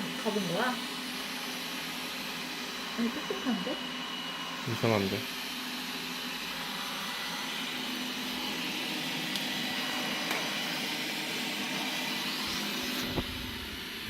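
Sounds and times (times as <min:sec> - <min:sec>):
robot vacuum whirring: 0:00.0 - 0:14.0.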